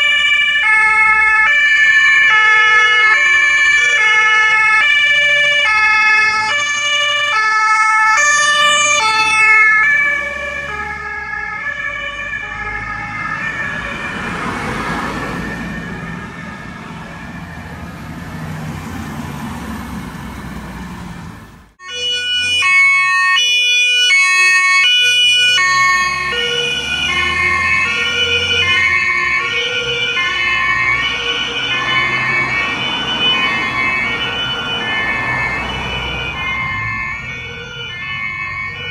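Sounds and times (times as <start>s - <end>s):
two-tone emergency sirens: 0.0s - 38.9s.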